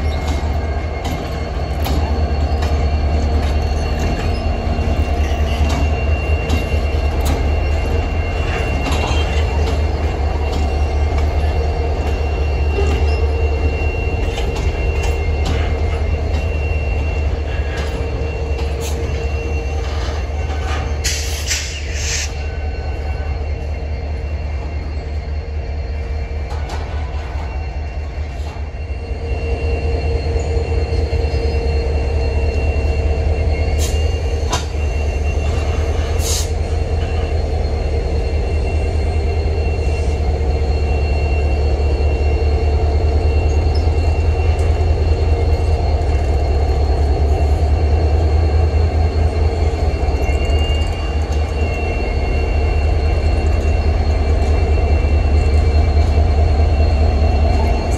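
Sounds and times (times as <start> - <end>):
diesel locomotives rolling: 0.0 - 57.9
high-pitched wheel squeal: 0.0 - 57.9
train wheels rumbling over rails: 0.0 - 57.9.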